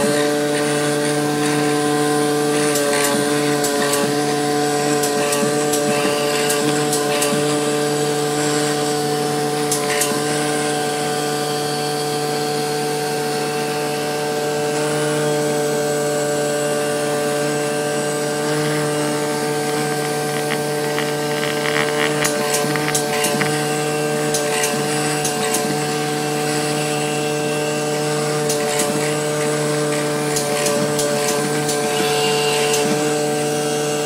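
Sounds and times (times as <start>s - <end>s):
cutting machine motor hum: 0.0s - 34.0s.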